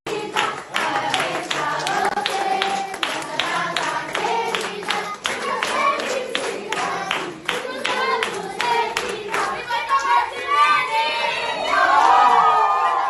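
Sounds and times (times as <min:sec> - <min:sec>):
rhythmic clapping: 0:00.1 - 0:11.3
group of people singing: 0:00.1 - 0:12.0.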